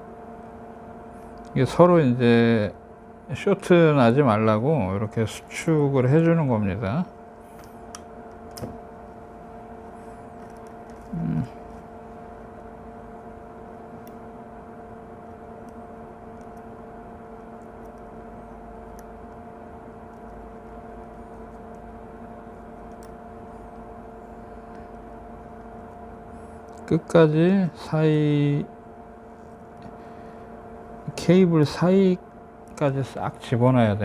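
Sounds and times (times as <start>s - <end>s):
electric motor hum: 0.0s - 34.0s.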